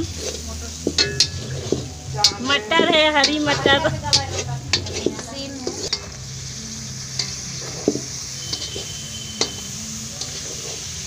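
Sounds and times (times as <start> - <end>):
spatula scraping metal pan: 0.0 - 6.2, 7.2 - 11.0
vegetables sizzling in oil: 0.0 - 11.0.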